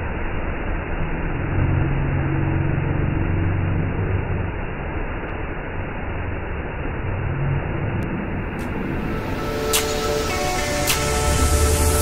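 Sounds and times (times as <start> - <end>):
low hum: 0.0 - 12.0
waterfall rushing into pool: 0.0 - 12.0.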